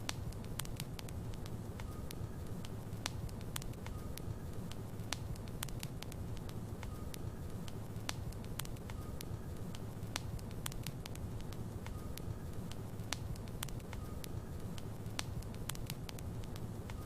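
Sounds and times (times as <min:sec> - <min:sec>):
wood crackling and popping: 0:00.0 - 0:17.0.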